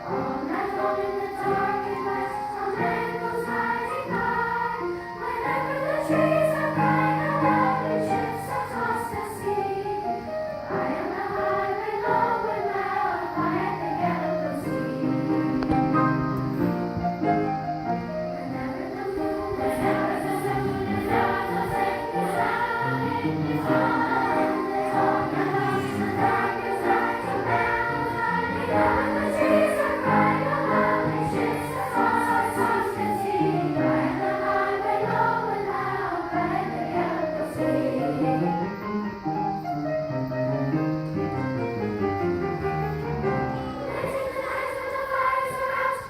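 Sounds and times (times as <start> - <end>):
choir singing in parts: 0.0 - 38.8, 43.0 - 46.0.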